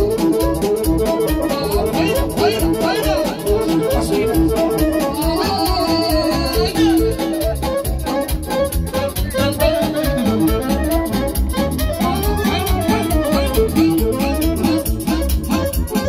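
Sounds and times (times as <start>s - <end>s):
live band playing through speakers: 0.0s - 16.0s.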